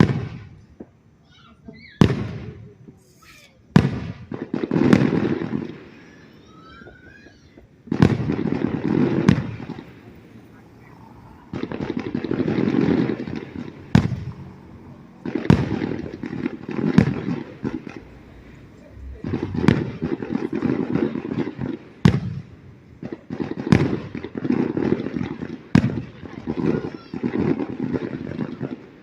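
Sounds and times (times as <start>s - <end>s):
fireworks booming and crackling: 0.0s - 29.0s.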